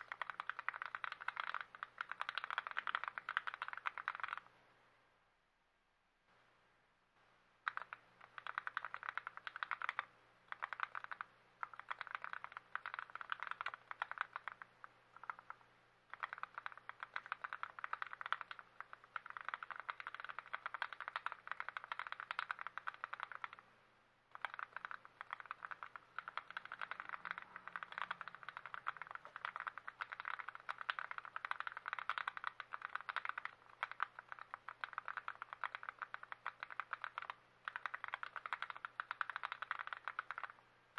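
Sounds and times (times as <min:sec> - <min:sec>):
mechanical keyboard typing: 0:00.0 - 0:04.5, 0:07.6 - 0:23.6, 0:24.3 - 0:40.6.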